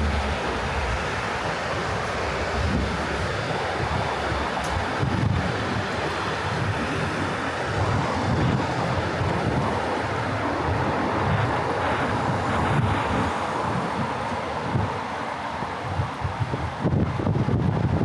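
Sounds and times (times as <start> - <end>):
road traffic noise: 0.0 - 18.0
wind on microphone: 0.0 - 18.0.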